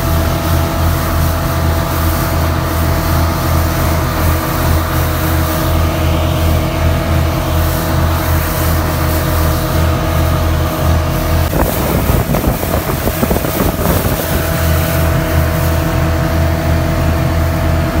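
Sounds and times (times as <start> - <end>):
motorboat engine running: 0.0 - 18.0
water splashing against hull: 0.0 - 18.0.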